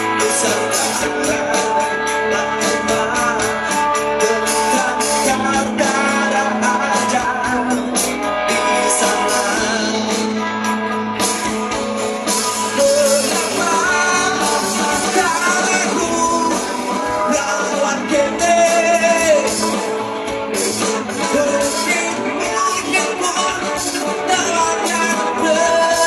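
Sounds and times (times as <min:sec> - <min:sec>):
rock music with singing: 0:00.0 - 0:26.0.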